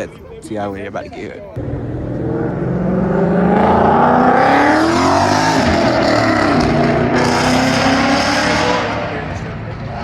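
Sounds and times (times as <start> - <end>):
car engine revving: 1.6 - 10.0.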